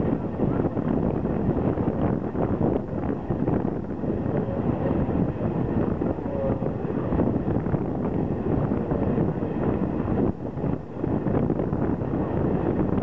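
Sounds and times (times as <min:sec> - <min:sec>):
train rolling noise: 0:00.0 - 0:13.0
wind buffeting microphone: 0:00.0 - 0:13.0.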